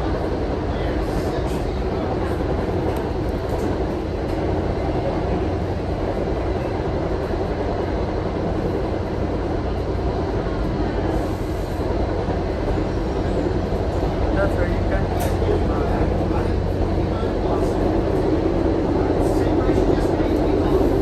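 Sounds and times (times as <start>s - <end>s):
train coach rumbling at speed: 0.0s - 21.0s.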